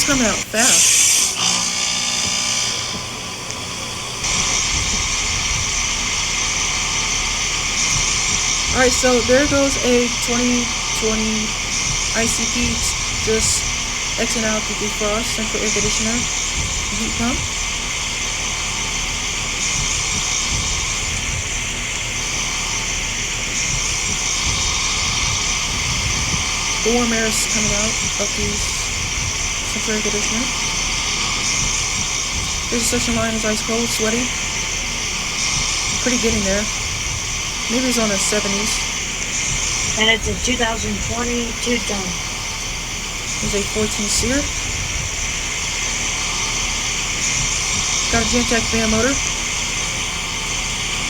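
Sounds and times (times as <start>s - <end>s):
heat pump air and steam hiss: 0.0s - 51.0s
heat pump whoosh with rumble: 0.0s - 51.0s.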